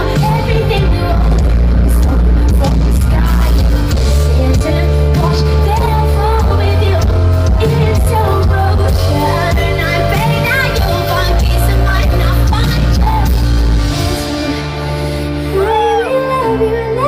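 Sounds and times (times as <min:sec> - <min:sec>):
band playing: 0:00.0 - 0:17.0
deep sustained bass notes: 0:00.0 - 0:17.0
woman singing: 0:00.0 - 0:17.0.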